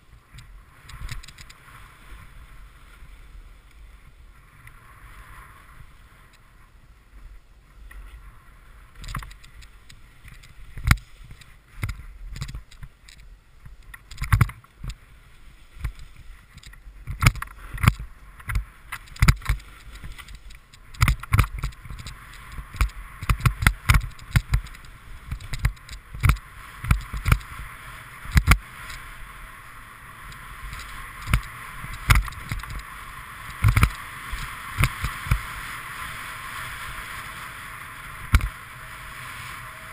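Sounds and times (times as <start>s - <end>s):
snowboard scraping hiss on snow: 0.0s - 12.3s, 14.8s - 39.9s.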